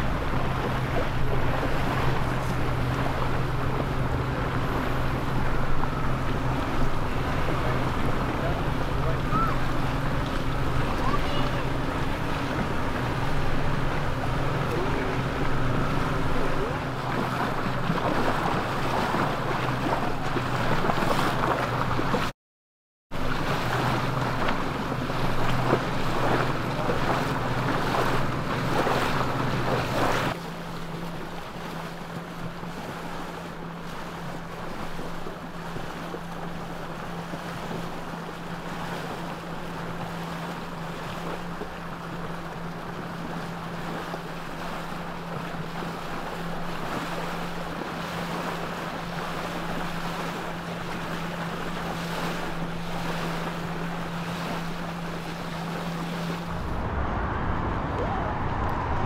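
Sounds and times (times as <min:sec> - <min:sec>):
boat engine drone: 0:00.0 - 0:22.3, 0:23.1 - 0:59.0
water noise: 0:00.0 - 0:22.3, 0:23.1 - 0:59.0
wind: 0:00.0 - 0:22.4, 0:23.1 - 0:59.0.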